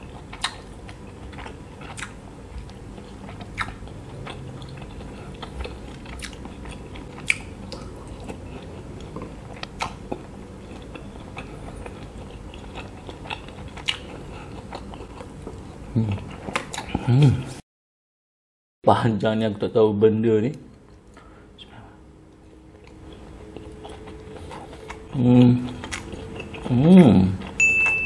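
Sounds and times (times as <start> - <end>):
chewing sausage: 0.0 - 17.4, 22.2 - 27.6.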